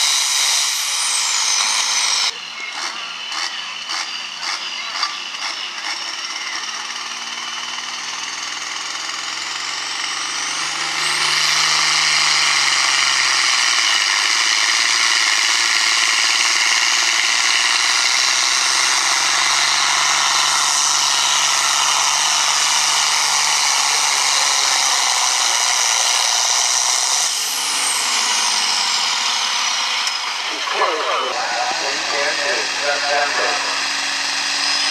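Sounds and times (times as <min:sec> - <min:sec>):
tractor engine at full throttle: 0:00.0 - 0:34.9.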